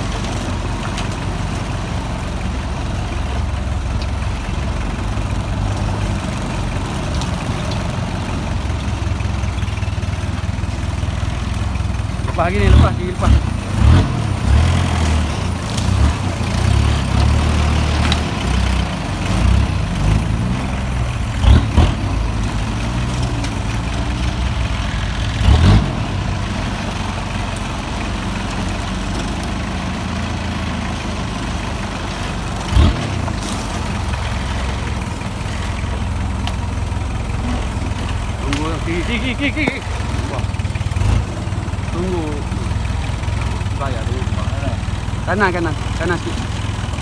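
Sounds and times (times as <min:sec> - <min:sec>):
car engine running at low speed: 0:00.0 - 0:47.0.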